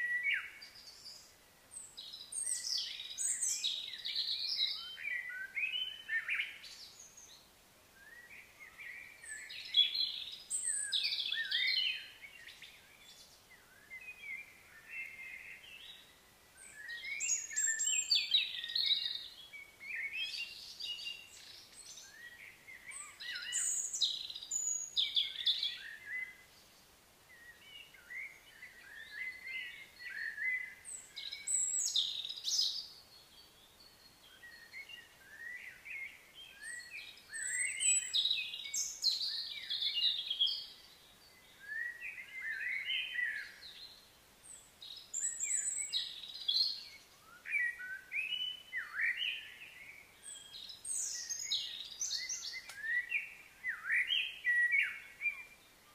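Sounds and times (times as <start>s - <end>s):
birds singing and chirping: 0.0s - 55.9s.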